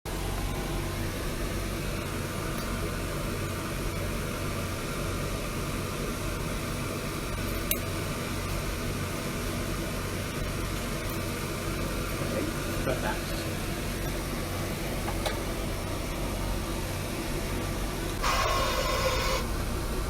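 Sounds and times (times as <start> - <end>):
low electrical hum: 0.1 - 20.0
ventilation fan noise: 0.1 - 20.0.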